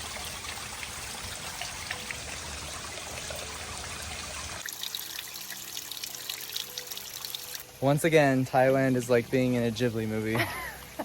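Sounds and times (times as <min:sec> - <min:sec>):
stream trickling and splashing: 0:00.0 - 0:11.0.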